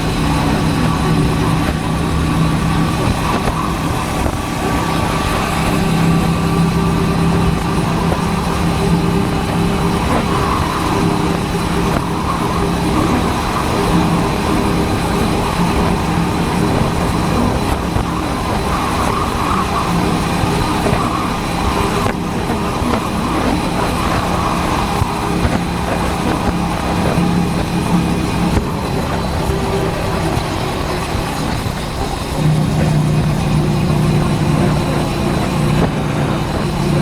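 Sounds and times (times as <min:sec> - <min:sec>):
motorcycle engine cruising: 0:00.0 - 0:37.0
road noise: 0:00.0 - 0:37.0
wind noise: 0:00.0 - 0:37.0.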